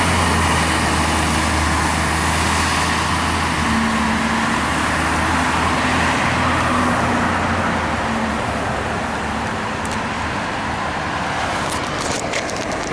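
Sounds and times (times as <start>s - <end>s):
bus diesel engine hum: 0.0s - 12.9s
road noise: 0.0s - 12.9s.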